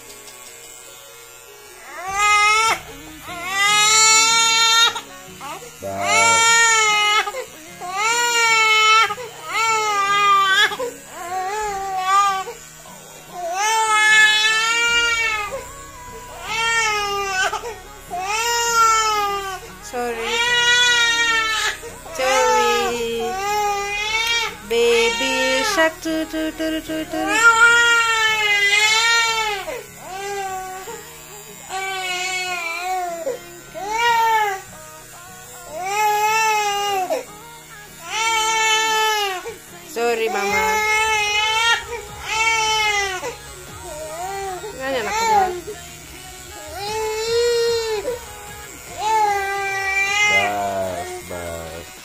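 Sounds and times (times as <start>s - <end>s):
baby crying: 1.9s - 12.6s, 13.3s - 25.8s, 27.2s - 31.0s, 31.7s - 34.6s, 38.0s - 39.6s, 40.2s - 45.8s, 46.6s - 52.0s.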